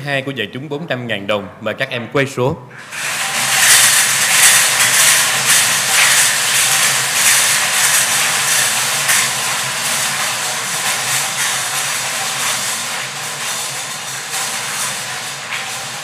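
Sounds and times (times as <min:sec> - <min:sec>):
lottery balls rattling in wire drums: 0:02.9 - 0:16.0.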